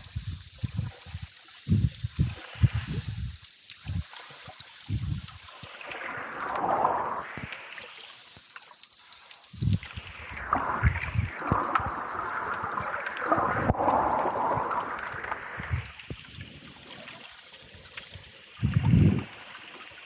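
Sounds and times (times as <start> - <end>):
muffled underwater water sloshing: 0.0 - 20.0.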